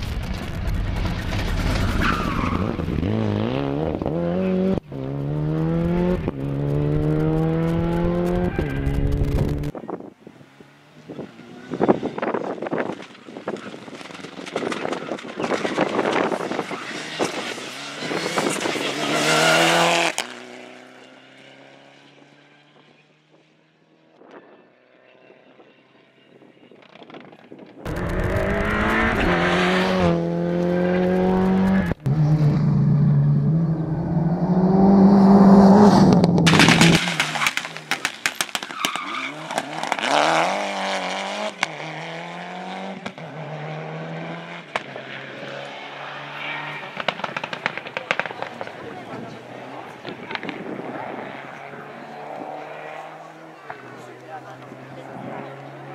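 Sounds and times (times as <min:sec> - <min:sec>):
rally car engines revving: 0:00.8 - 0:22.6, 0:27.9 - 0:55.9.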